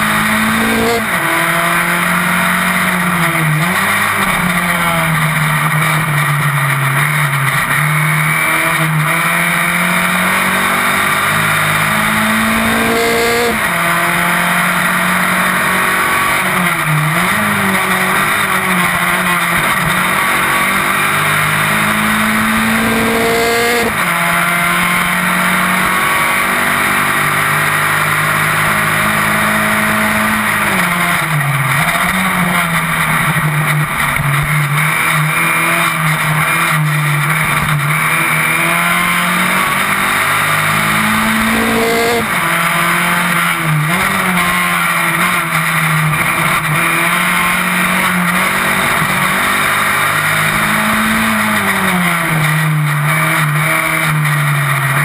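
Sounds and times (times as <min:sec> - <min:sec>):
racing car engine revving: 0:00.0 - 0:55.0
wind and road noise: 0:00.0 - 0:55.0.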